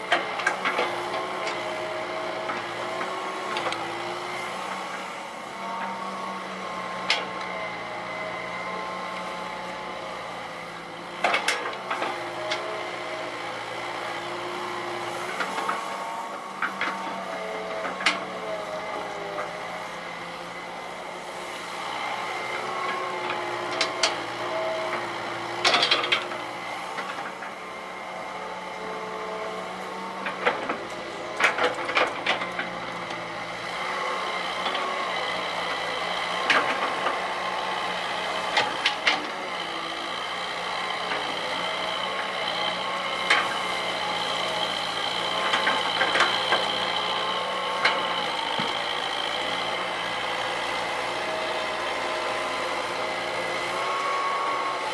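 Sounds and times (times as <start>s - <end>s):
diesel engine under load: 0.0s - 54.9s.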